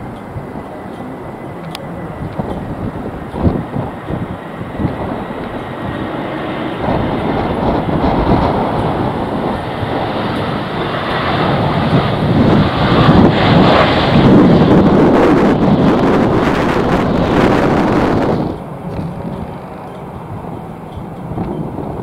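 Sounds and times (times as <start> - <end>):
airliner engine noise: 0.0 - 22.0
wind buffeting microphone: 0.0 - 22.0.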